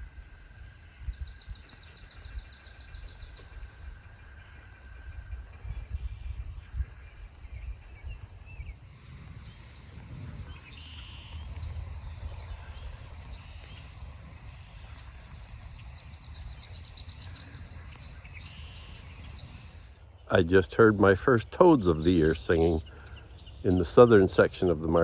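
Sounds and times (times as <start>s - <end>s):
low trill of toads: 0.0s - 20.4s
marsh birds calling: 0.8s - 25.0s
steady low rumble: 2.6s - 25.0s.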